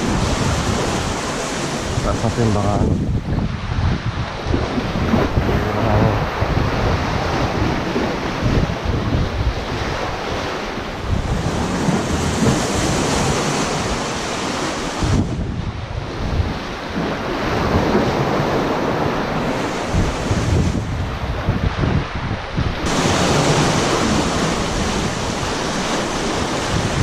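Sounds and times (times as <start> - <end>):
waves splashing against rocks: 0.0 - 27.0
wind buffeting microphone: 0.0 - 27.0.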